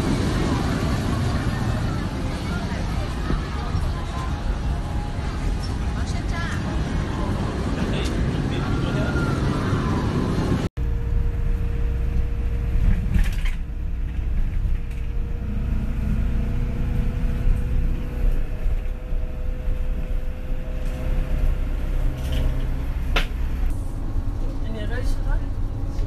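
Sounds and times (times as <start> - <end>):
bus engine and road rumble: 0.0 - 26.0
street noise: 0.0 - 26.0.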